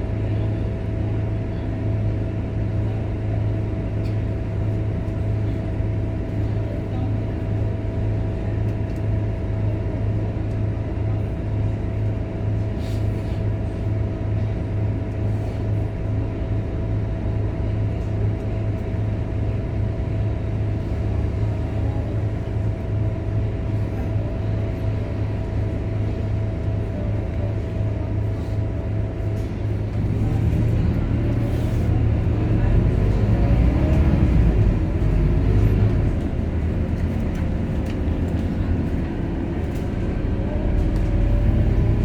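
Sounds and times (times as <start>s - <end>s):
diesel bus engine droning: 0.0s - 42.0s.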